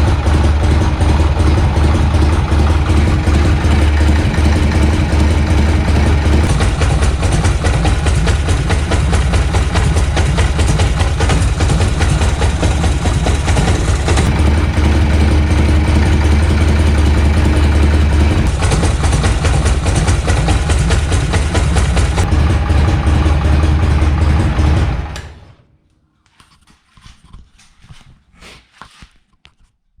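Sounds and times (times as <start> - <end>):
motorcycle engine idling: 0.0 - 25.6.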